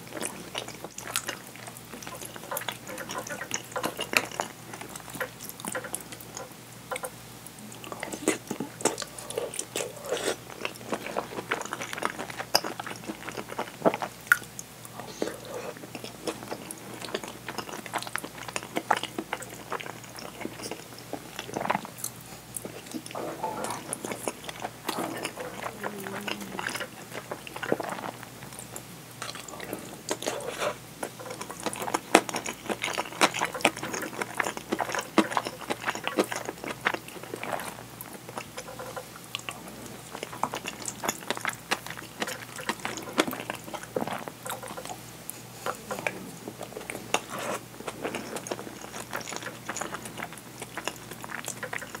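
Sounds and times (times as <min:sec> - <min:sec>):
wet chewing and mouth sounds: 0:00.0 - 0:52.0.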